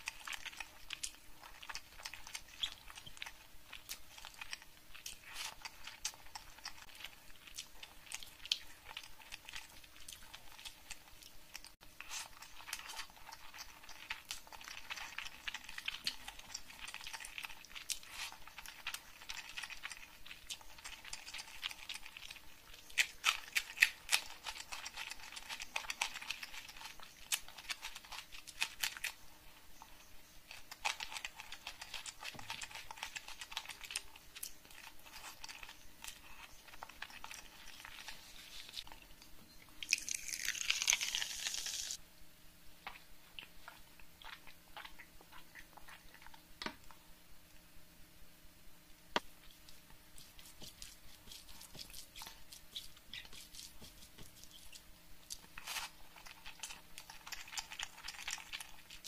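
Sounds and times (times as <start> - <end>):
close chewing and crunching: 0.0 - 42.0, 42.8 - 47.7, 48.9 - 59.0.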